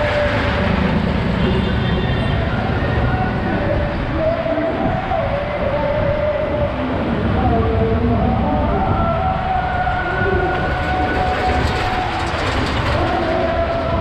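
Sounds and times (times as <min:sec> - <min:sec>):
ferris wheel rumbling: 0:00.0 - 0:14.0.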